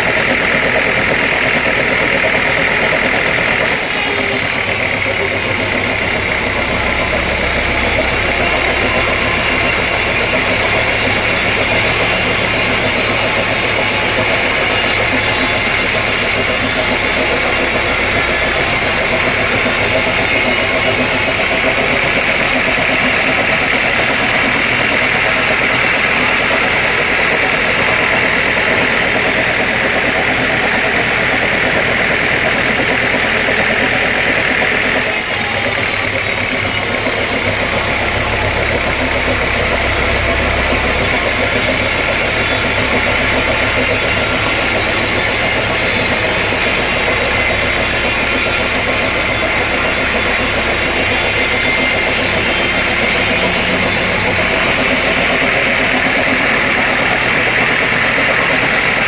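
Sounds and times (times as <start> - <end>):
sawmill saw and engine running: 0.0 - 59.0.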